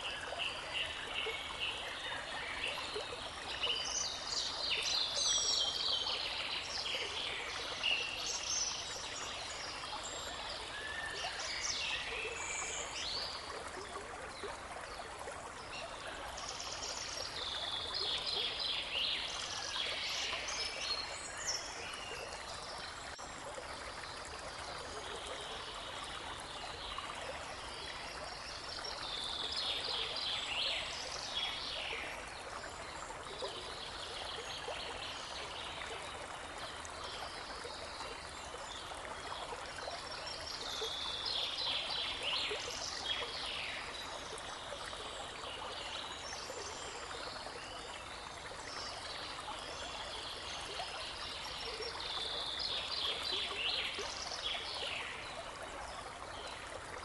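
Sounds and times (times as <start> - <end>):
babbling brook: 0.0 - 57.0.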